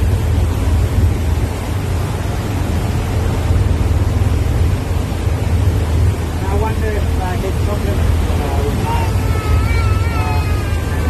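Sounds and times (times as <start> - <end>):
wake rushing: 0.0 - 11.0.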